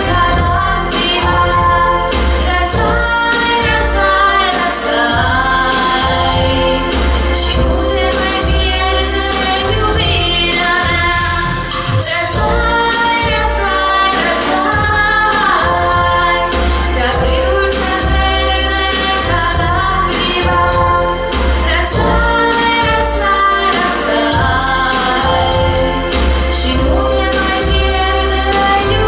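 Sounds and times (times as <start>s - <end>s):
instrumental music with pulsing bass: 0.0s - 29.0s
woman singing slow song: 0.0s - 29.0s.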